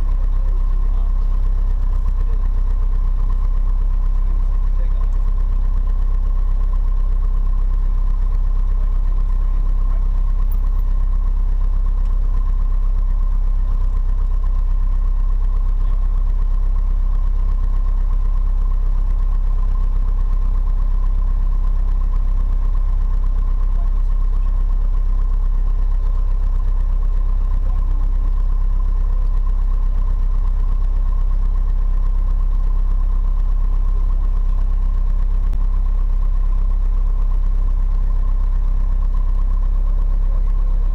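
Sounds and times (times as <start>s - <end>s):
aircraft engine idling: 0.0s - 40.9s.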